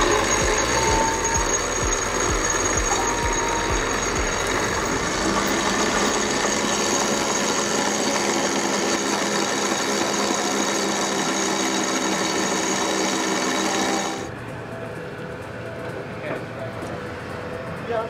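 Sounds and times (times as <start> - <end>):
electric winch motor humming: 0.0 - 18.0.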